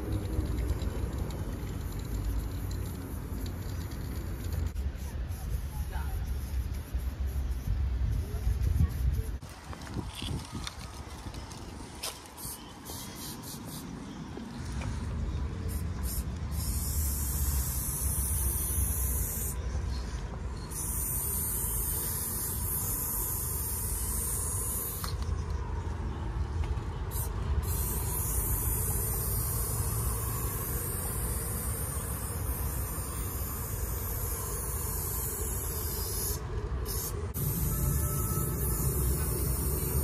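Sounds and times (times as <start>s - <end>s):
spray paint can hissing: 0.0s - 14.2s, 15.6s - 25.4s, 27.1s - 40.0s.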